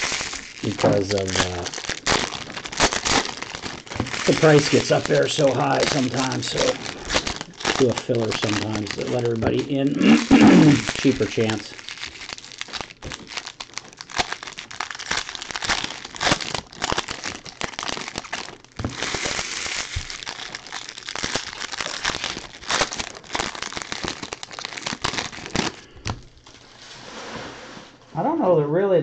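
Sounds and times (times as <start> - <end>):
foil wrappers crinkling: 0.0 - 27.0.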